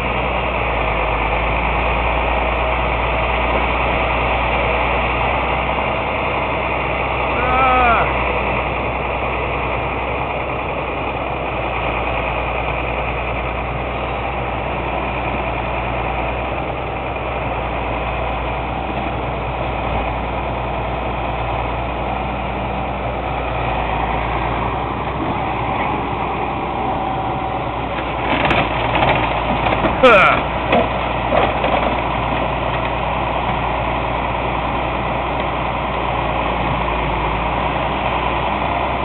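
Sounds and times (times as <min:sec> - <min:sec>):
truck engine running: 0:00.0 - 0:39.0.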